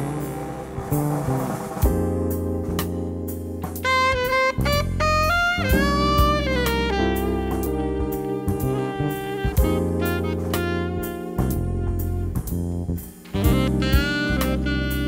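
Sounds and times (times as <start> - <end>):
bass and drum beat: 0.0 - 15.0
melody with sliding notes: 0.0 - 15.0.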